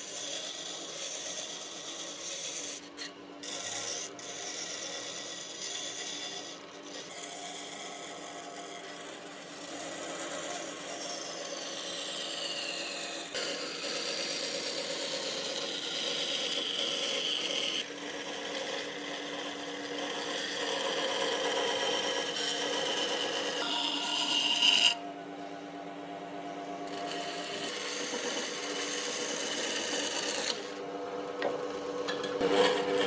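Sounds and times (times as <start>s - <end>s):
power tool rasping against wood: 0.0s - 25.0s, 26.9s - 33.0s.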